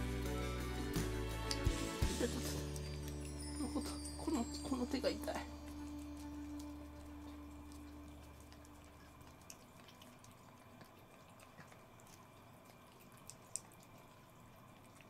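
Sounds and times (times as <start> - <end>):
cats licking: 1.3 - 15.0.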